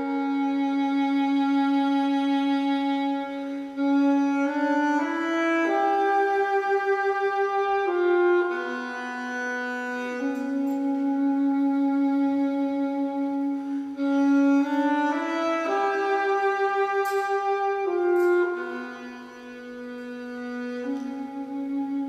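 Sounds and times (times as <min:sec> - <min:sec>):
reedy wind instrument melody: 0:00.0 - 0:22.0.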